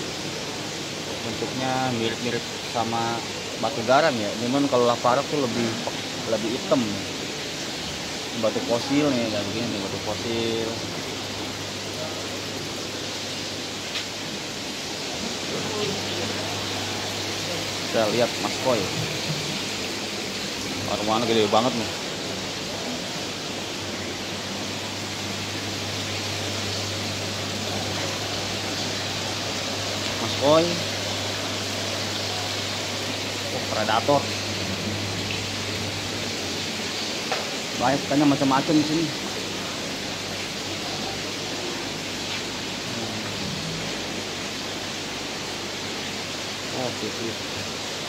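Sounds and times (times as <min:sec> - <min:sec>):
aquarium water hissing: 0:00.0 - 0:48.0
low pump hum: 0:04.7 - 0:48.0.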